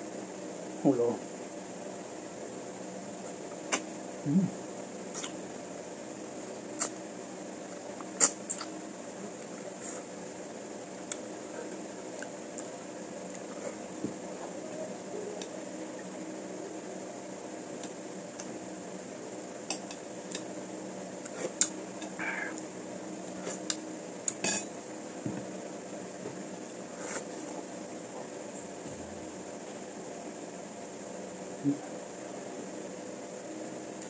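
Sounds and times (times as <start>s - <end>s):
steady background hum: 0.0s - 34.0s.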